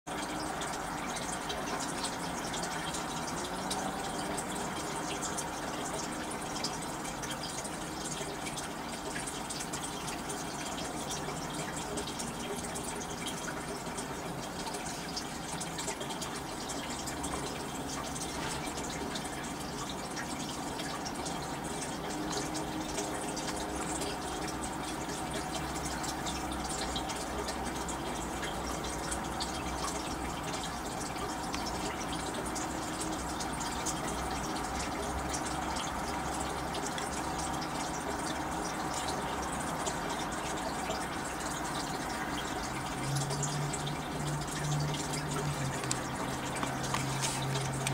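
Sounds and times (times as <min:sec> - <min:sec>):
running water: 0:00.1 - 0:47.9.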